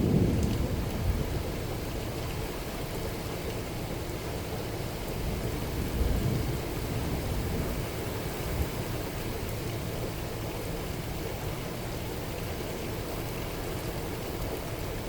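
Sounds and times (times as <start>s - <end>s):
low rumble of thunder: 0.0s - 12.1s
steady rain falling: 0.0s - 15.0s.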